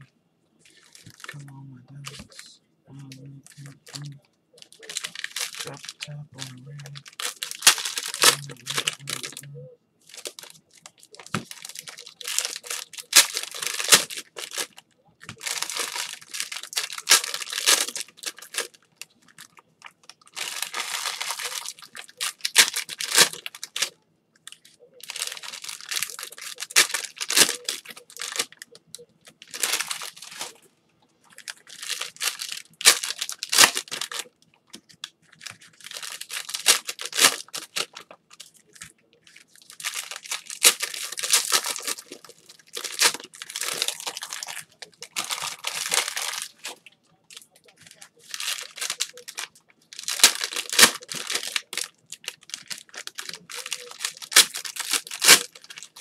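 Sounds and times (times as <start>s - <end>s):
wrappers crinkling: 0.6s - 1.4s, 2.0s - 56.0s
card packs torn open: 3.7s - 9.4s, 10.1s - 19.5s, 20.2s - 23.9s, 24.5s - 28.6s, 29.3s - 30.6s, 31.4s - 56.0s.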